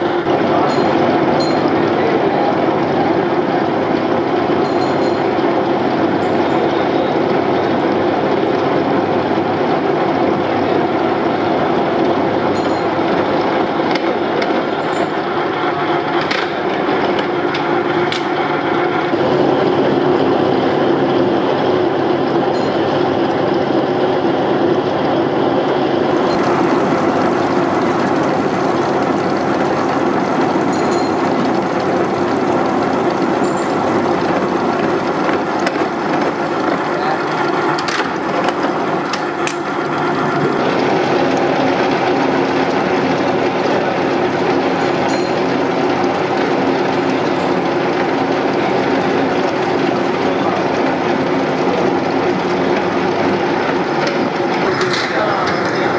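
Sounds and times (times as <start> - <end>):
coolant stream: 0.0 - 55.9
gear hobbing machine running: 0.0 - 55.9.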